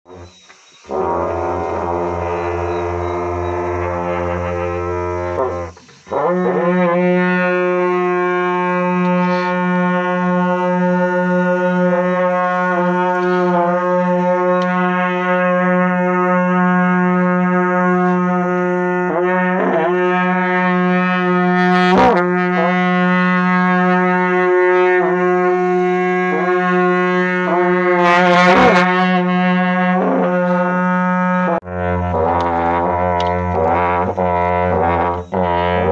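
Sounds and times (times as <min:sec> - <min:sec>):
long horns blowing: 0:00.1 - 0:35.9.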